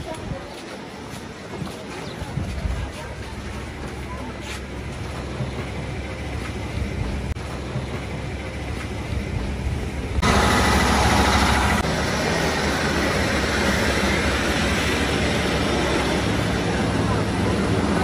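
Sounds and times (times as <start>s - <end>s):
busy street ambience: 0.0s - 18.0s
vehicle engine rumbling: 0.0s - 18.0s.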